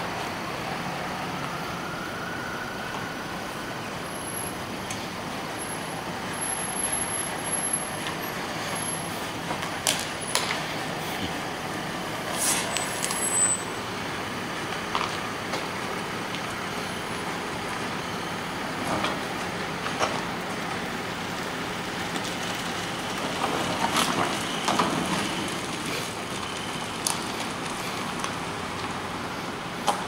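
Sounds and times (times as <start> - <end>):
city street noise: 0.0 - 30.0.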